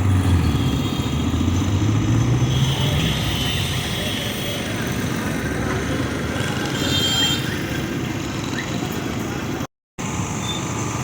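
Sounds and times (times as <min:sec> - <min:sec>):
vehicles passing on road: 0:00.0 - 0:11.0.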